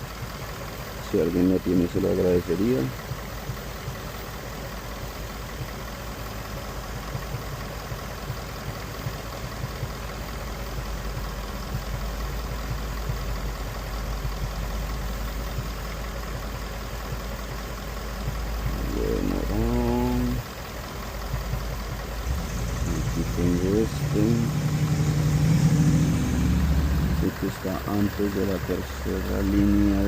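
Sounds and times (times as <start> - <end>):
car engine idling with misfire: 0.0 - 30.0.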